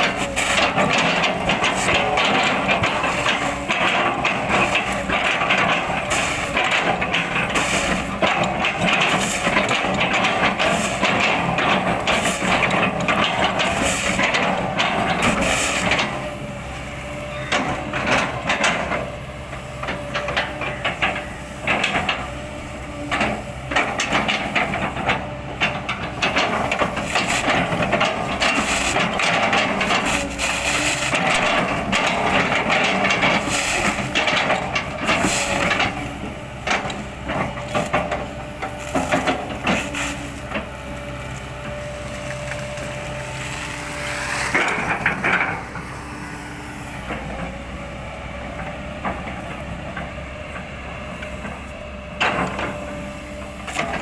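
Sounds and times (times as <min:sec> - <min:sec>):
excavator diesel engine under load: 0:00.0 - 0:54.0.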